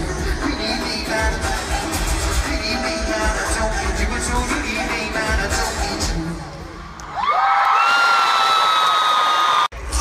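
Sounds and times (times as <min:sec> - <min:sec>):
live pop concert music: 0:00.0 - 0:10.0.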